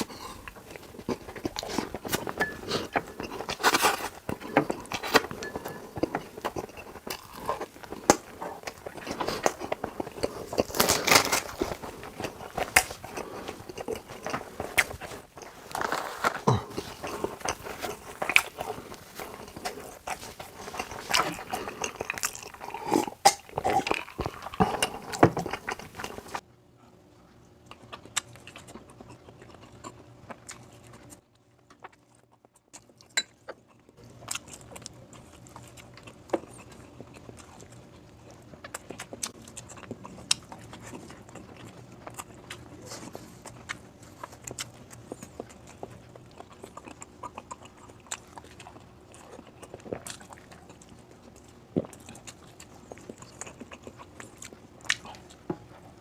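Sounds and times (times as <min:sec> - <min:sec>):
chewing food with mouth smacks: 0:00.0 - 0:26.4, 0:27.3 - 0:56.0.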